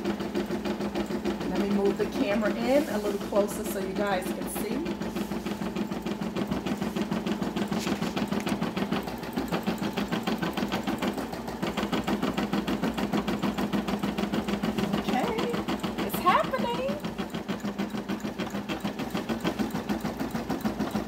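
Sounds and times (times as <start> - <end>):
motor hum: 0.0 - 21.0.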